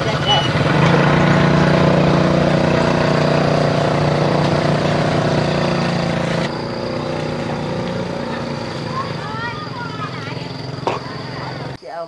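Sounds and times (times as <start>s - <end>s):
small motorcycle engine running: 0.0s - 11.8s.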